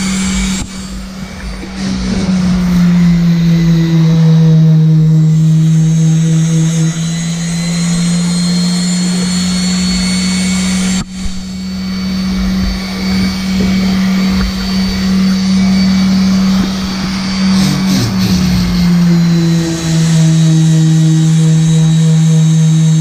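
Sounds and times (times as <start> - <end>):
electric power sander running: 0.0 - 23.0.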